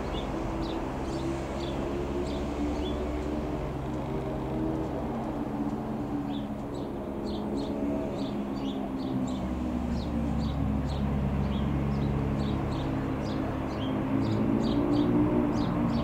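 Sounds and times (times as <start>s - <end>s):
light aircraft engine droning: 0.0s - 16.0s
small birds chirping: 0.0s - 16.0s.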